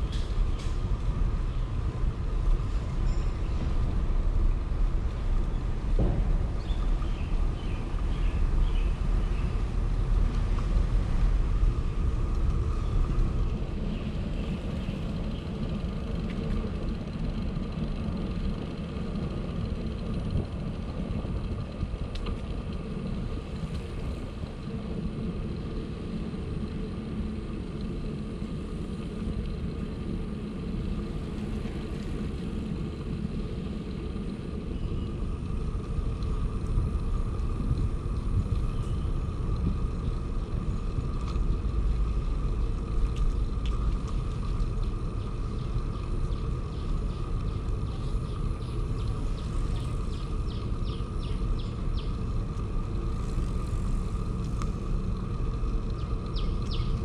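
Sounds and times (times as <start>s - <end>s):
bicycle tyre noise: 0.0s - 57.0s
wind buffeting microphone: 0.0s - 57.0s.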